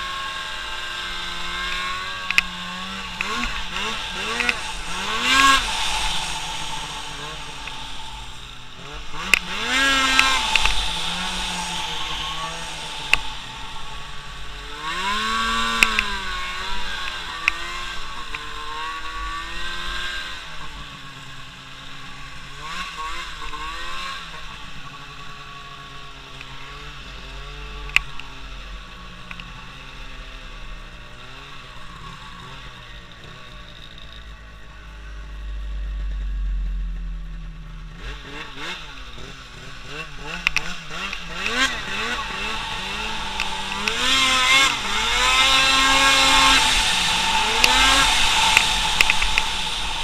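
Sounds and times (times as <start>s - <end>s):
vehicle engine revving: 0.0s - 50.0s.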